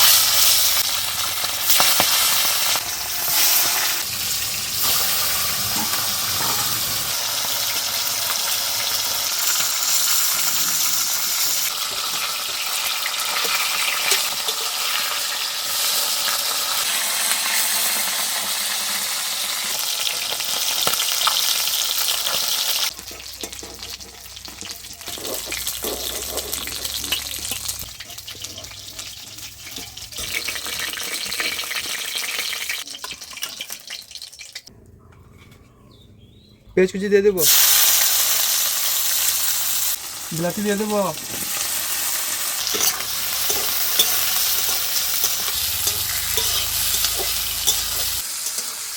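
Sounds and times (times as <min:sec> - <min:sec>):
fish frying in hot oil: 0:00.0 - 0:34.7, 0:37.4 - 0:48.9.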